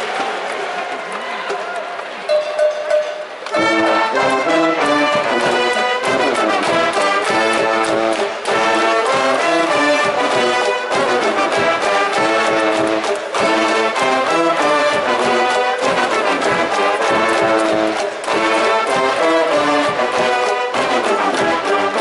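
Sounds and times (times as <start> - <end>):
brass band playing fight song: 3.4 - 22.0.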